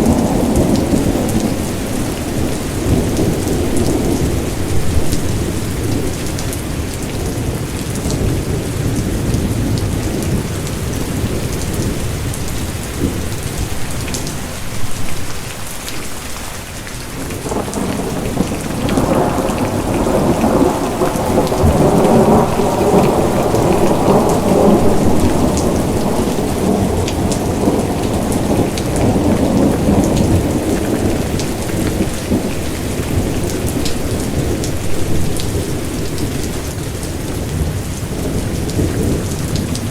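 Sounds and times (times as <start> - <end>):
rolling thunder: 0.0 - 15.3, 17.2 - 39.9
steady rain: 0.0 - 39.9.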